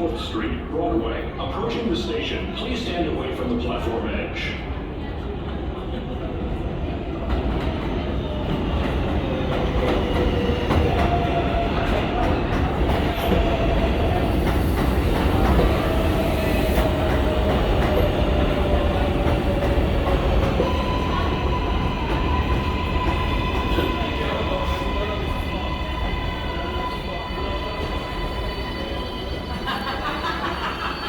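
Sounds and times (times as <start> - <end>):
subway train rumbling: 0.0 - 31.0.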